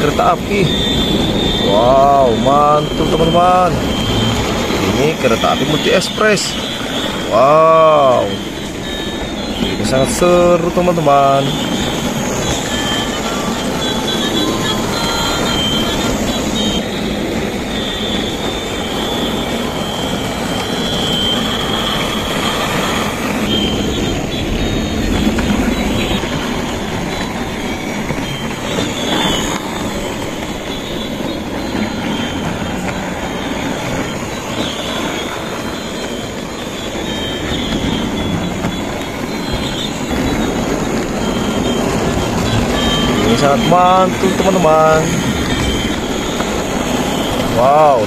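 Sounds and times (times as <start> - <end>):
toy trains running on track: 0.0 - 48.0.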